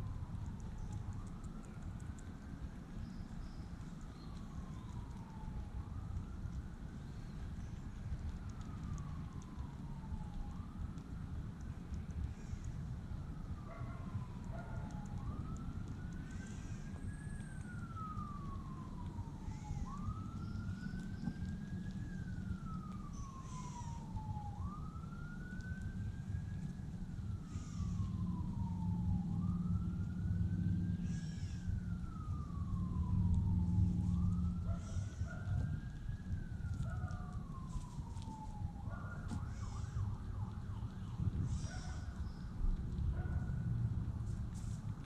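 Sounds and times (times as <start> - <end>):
siren wailing: 0.0 - 44.1
low steady rumble: 0.0 - 45.0.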